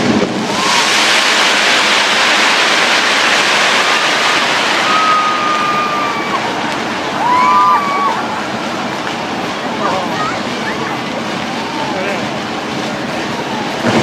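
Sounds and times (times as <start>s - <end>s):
crowd noise: 0.0s - 14.0s
fireworks crackling: 0.0s - 14.0s
fireworks whistling: 0.0s - 14.0s.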